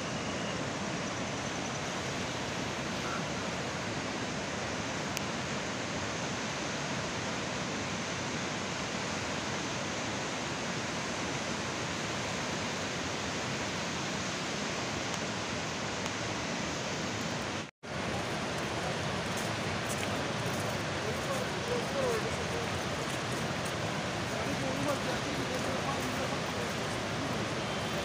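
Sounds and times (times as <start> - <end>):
floodwater rushing: 1.8 - 28.0.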